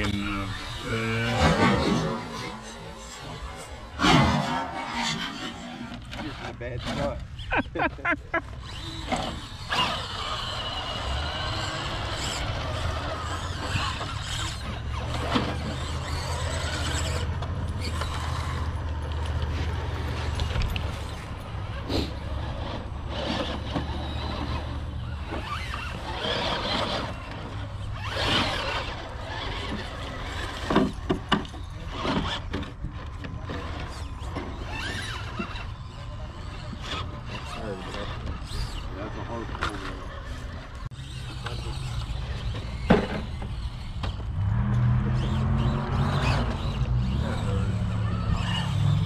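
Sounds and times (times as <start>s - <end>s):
small motors whining: 0.0s - 49.0s
tires scraping on stone: 0.0s - 49.0s.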